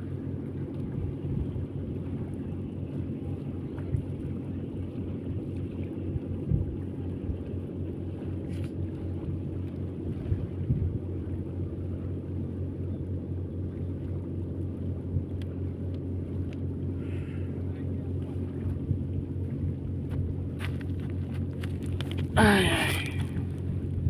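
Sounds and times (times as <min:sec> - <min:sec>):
engine droning steadily: 0:00.0 - 0:24.0.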